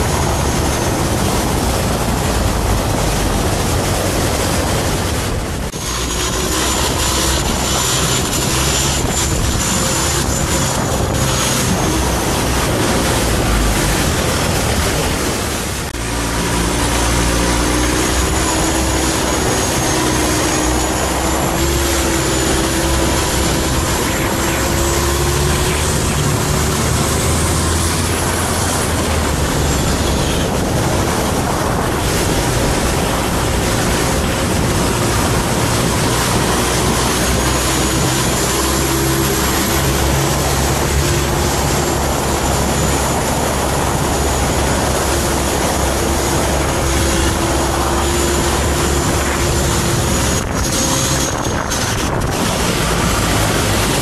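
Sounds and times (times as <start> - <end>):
boat engine droning with whine: 0.0 - 54.0
water rushing past hull: 0.0 - 54.0.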